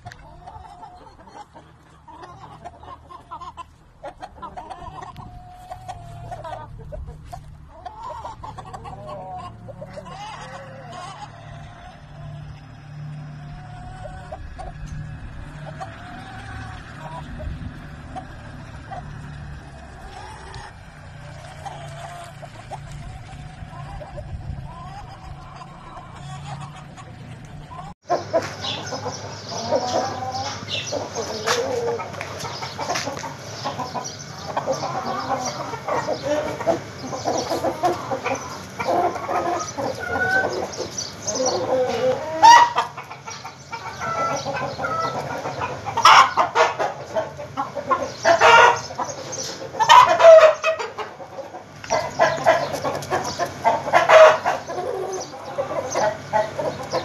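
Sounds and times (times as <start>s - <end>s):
chickens clucking and calling: 0.0s - 57.0s.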